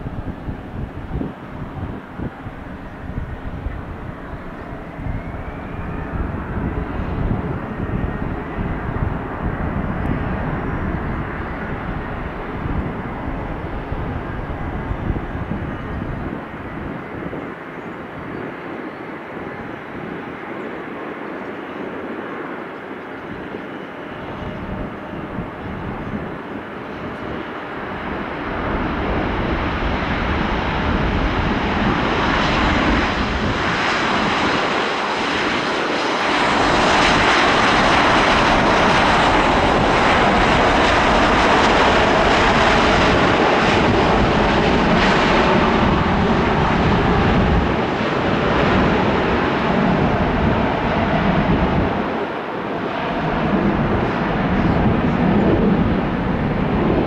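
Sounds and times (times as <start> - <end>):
jet engine noise with whine: 0.0 - 57.0.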